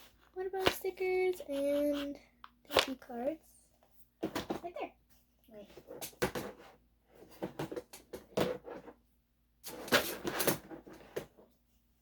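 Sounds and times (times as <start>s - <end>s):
rustling and clattering of toys: 0.0s - 11.6s.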